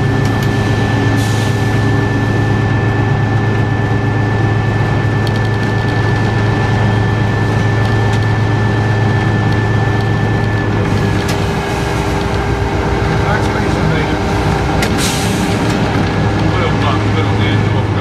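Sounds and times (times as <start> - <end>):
locomotive engine drone: 0.0 - 18.0.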